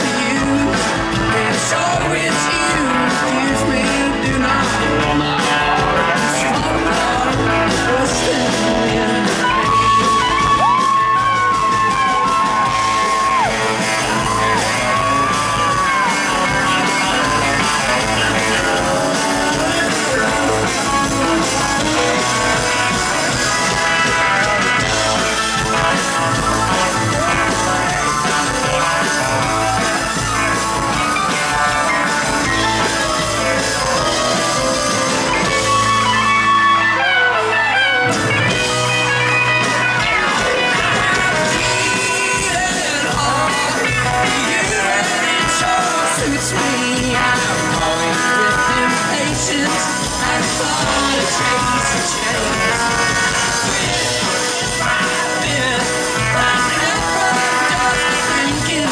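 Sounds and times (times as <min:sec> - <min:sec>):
live country band playing: 0:00.0 - 0:58.9
person singing: 0:00.0 - 0:58.9.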